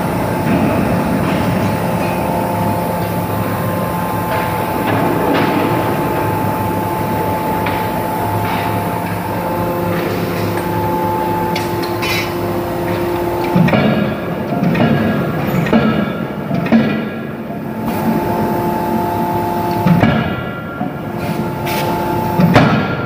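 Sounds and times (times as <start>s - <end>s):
industrial machinery hum: 0.0s - 23.0s.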